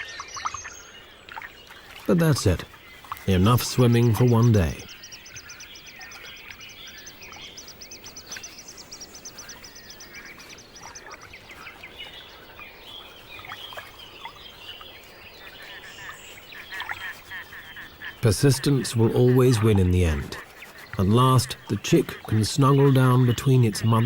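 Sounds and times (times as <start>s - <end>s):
bird chirps: 0.0s - 24.0s.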